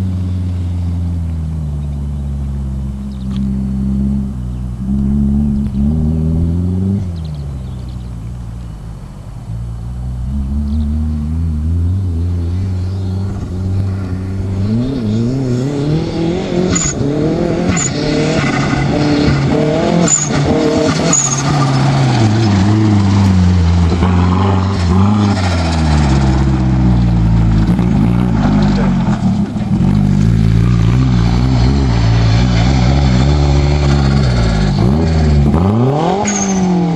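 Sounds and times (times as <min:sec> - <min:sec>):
truck engine revving: 0:00.9 - 0:36.9.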